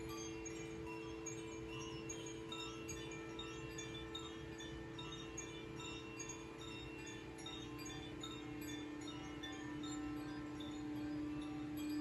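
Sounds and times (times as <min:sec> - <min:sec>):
singing bowls humming: 0:00.0 - 0:12.0
wind chime tinkling: 0:00.0 - 0:12.0.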